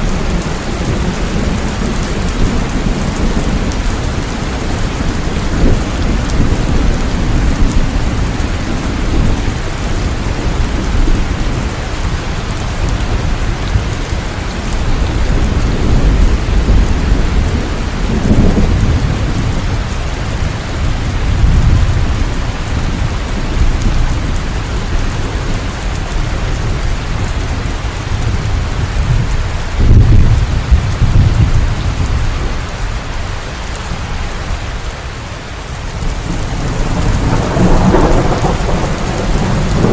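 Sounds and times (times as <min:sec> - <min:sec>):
low thunder rumbling: 0:00.0 - 0:34.6, 0:35.8 - 0:39.9
steady rain: 0:00.0 - 0:39.9.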